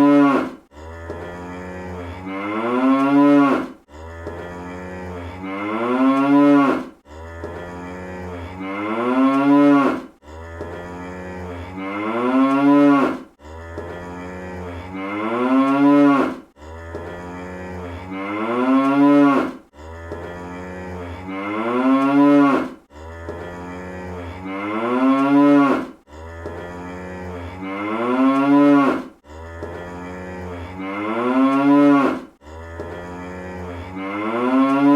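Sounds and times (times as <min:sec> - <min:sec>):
cartoon cow mooing: 0:00.0 - 0:34.9.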